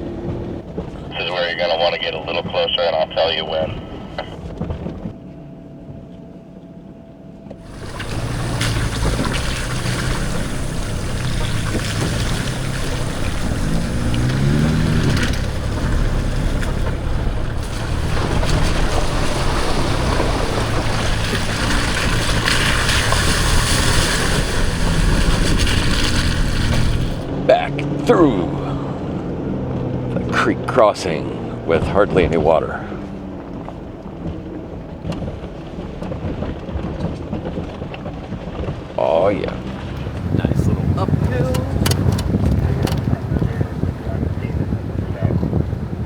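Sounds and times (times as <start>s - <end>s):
off-road vehicle engine: 0.0s - 46.0s
wind: 0.0s - 46.0s
water rushing: 1.0s - 4.1s, 7.6s - 46.0s.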